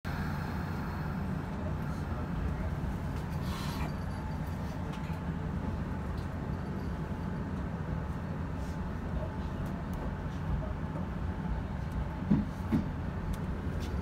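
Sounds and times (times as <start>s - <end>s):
electric train hum and rumble: 0.0s - 14.0s.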